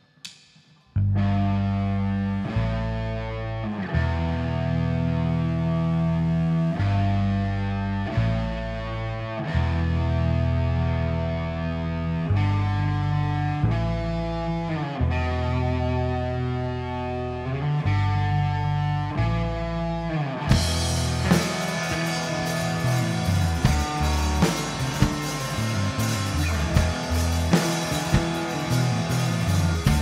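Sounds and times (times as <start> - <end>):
drums: 0.0 - 30.0
electric guitar chords: 1.0 - 30.0
rock band playing: 1.2 - 30.0.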